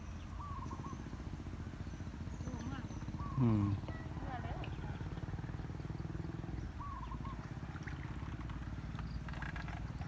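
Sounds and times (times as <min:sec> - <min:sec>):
small engine running: 0:00.2 - 0:10.0.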